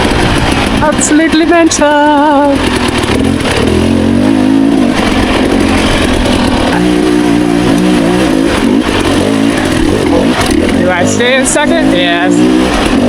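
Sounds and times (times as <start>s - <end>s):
dirt bike engine revving: 0.0s - 13.0s
wind: 0.0s - 13.0s
tyre noise: 2.3s - 13.0s.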